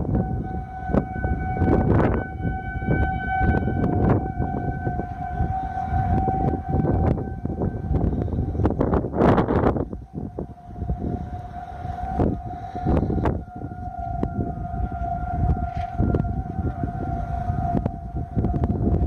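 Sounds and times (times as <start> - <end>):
tornado warning siren: 0.0 - 19.0
wind buffeting microphone: 0.0 - 19.0.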